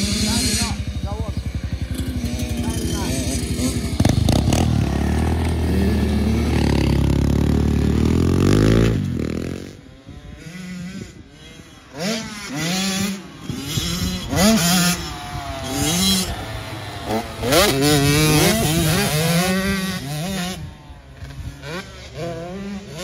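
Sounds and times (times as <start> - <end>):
dirt bike engine running: 0.0 - 23.0
distant dirt bike revving: 0.0 - 23.0.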